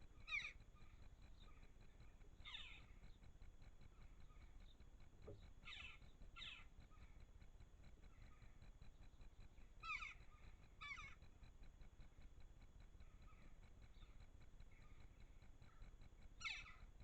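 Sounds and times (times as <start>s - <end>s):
bird calling faintly: 0.0s - 11.6s, 12.8s - 17.0s
low background hum: 0.0s - 17.0s.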